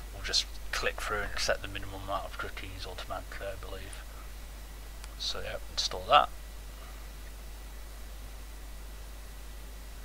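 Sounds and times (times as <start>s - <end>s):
low hum: 0.0s - 10.0s
steady hiss: 0.0s - 10.0s.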